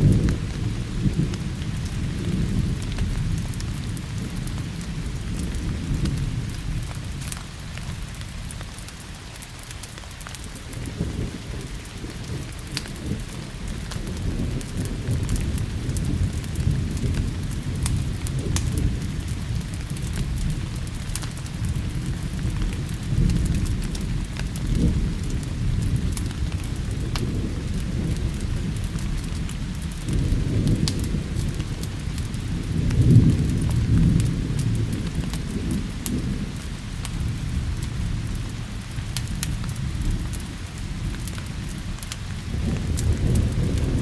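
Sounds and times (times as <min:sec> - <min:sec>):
rolling thunder: 0:00.0 - 0:07.4, 0:10.5 - 0:44.0
sharp crackles: 0:00.0 - 0:44.0
steady rain: 0:00.0 - 0:44.0.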